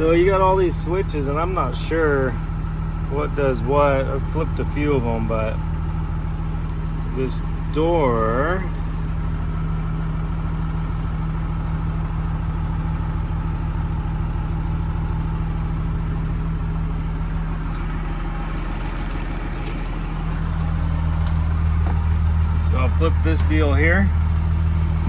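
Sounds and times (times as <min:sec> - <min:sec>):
diesel bus engine idling: 0:00.0 - 0:25.0.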